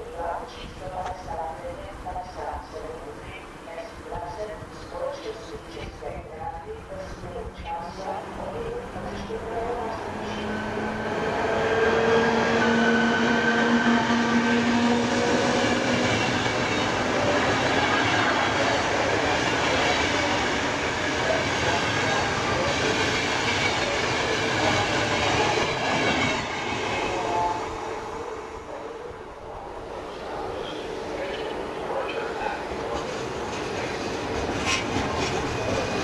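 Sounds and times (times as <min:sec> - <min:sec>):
electric locomotive whine: 0:00.0 - 0:36.0
train wheels rolling on rails: 0:04.0 - 0:36.0.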